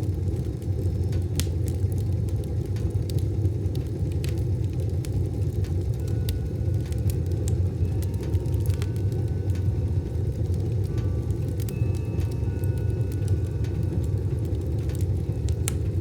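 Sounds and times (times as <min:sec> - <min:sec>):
fire crackling: 0:00.0 - 0:16.0
wood stove fire rumbling: 0:00.0 - 0:16.0.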